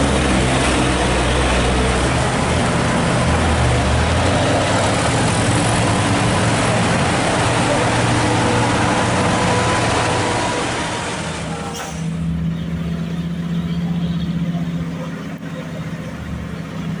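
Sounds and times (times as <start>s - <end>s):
heavy truck engine running: 0.0s - 17.0s
loud vehicle noise with hiss: 0.0s - 17.0s.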